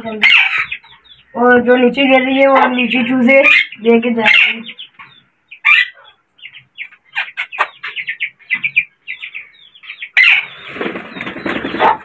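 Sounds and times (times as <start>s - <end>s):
parakeets squawking: 0.1s - 12.0s.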